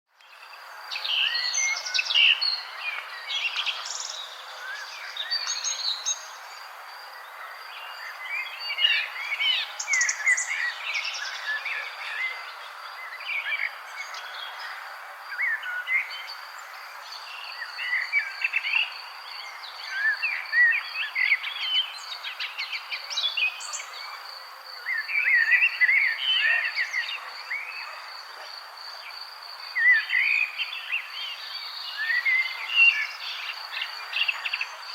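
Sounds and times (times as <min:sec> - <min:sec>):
birds chirping and warbling: 0:00.3 - 0:34.9.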